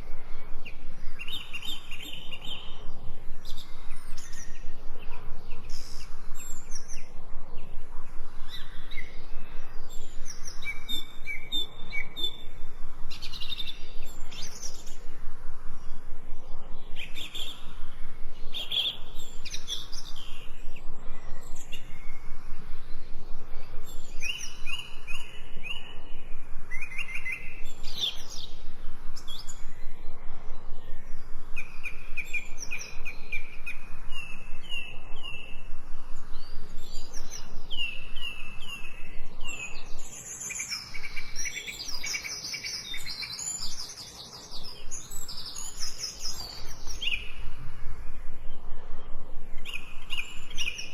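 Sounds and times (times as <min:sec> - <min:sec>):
songbirds chirping and singing: 0:00.0 - 0:50.9.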